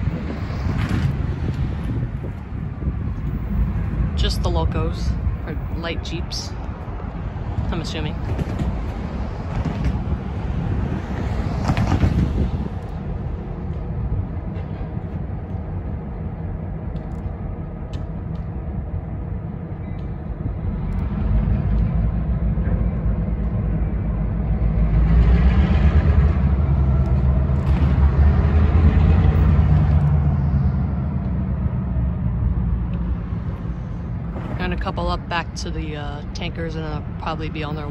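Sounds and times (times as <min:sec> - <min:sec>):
diesel locomotive engine rumble: 0:00.0 - 0:37.9.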